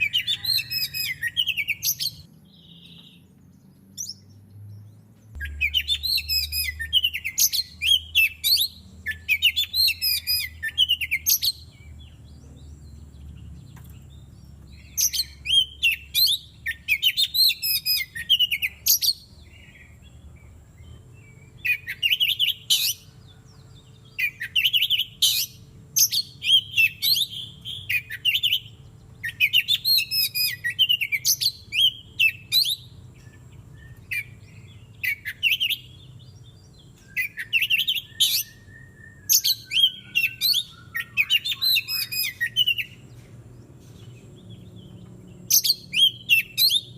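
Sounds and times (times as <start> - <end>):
bird singing rapid phrases: 0.0 - 46.9.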